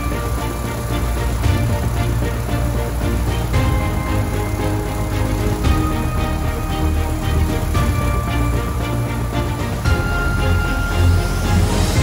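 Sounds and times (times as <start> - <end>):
bass-heavy music with held chords: 0.0 - 12.0.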